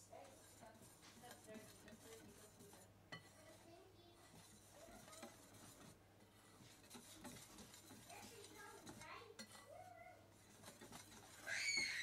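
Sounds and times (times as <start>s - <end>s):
whisk clinking in a bowl: 0.0s - 12.0s.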